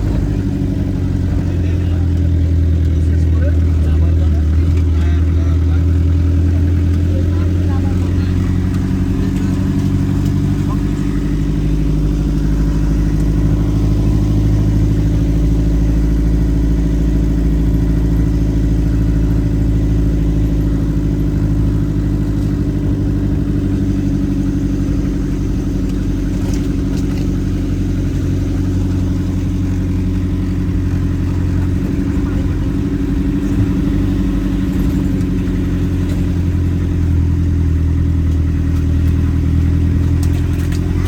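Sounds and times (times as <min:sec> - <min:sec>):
vehicle engine humming: 0:00.0 - 0:41.0.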